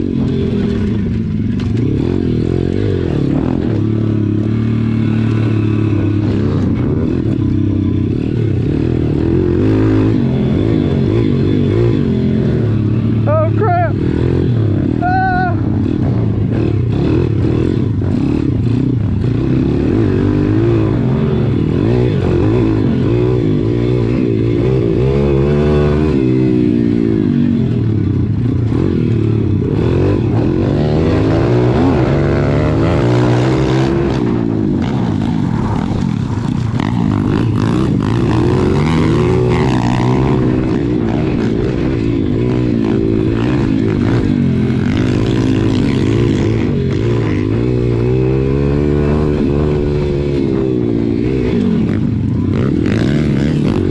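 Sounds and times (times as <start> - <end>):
small motorbike engine revving: 0.0 - 53.9.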